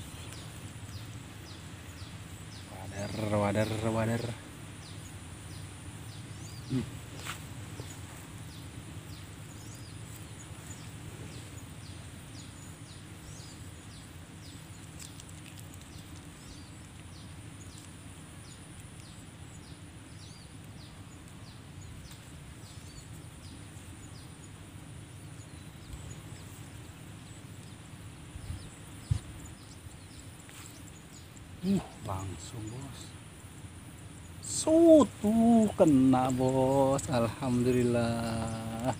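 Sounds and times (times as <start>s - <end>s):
low steady rush: 0.0s - 38.9s.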